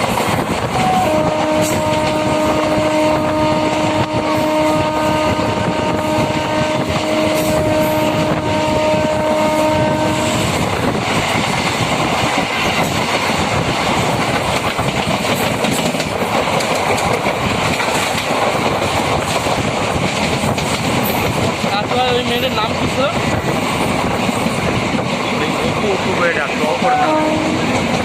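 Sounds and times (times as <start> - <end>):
electric train rumbling on rails: 0.0 - 28.0.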